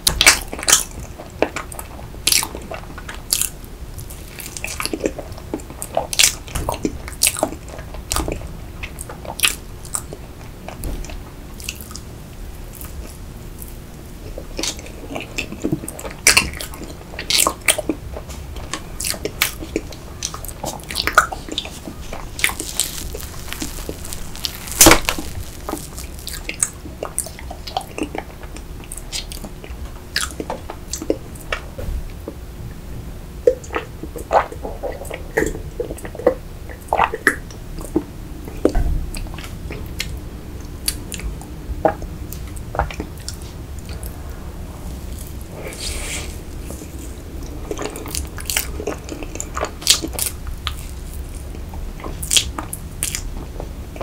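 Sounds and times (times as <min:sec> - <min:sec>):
chewing soft cake: 0:00.0 - 0:32.4, 0:33.4 - 0:54.0.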